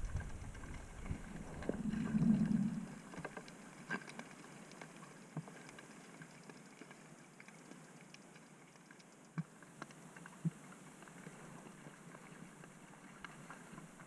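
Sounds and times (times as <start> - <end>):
faint underwater clicks: 0.0 - 14.0
underwater rush of water: 0.0 - 14.0.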